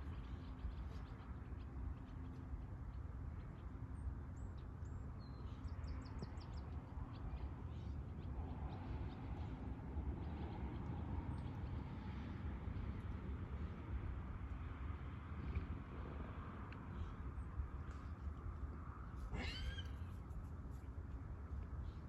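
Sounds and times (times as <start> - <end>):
low steady outdoor rumble: 0.0 - 22.0.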